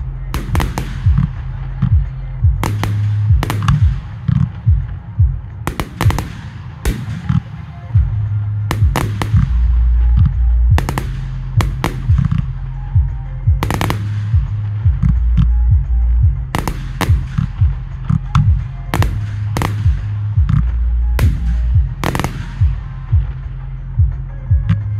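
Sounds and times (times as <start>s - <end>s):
music with low bass: 0.0s - 24.9s.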